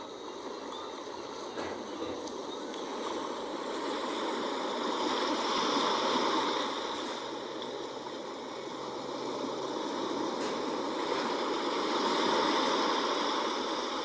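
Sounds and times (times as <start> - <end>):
sea waves washing: 0.0 - 14.0.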